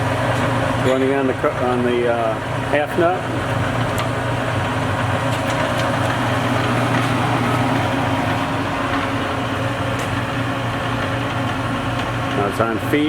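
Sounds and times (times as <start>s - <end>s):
lathe motor and gearing hum: 0.0s - 13.0s.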